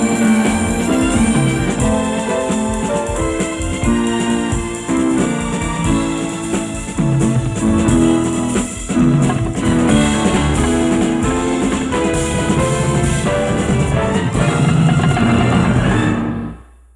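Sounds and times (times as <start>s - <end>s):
drum kit: 0.0s - 16.6s
instrumental band theme music: 0.0s - 16.6s
guitar: 0.0s - 16.8s.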